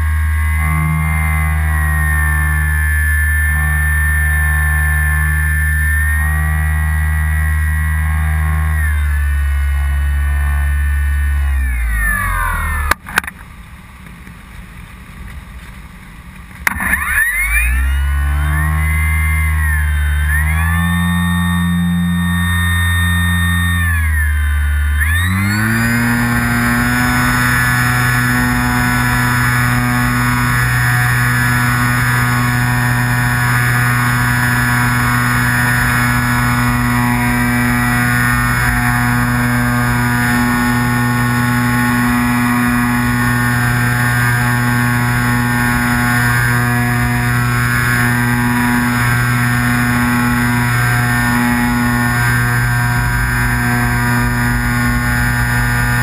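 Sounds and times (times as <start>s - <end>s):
electric motor and propeller whine: 0.0s - 15.0s, 15.6s - 56.0s.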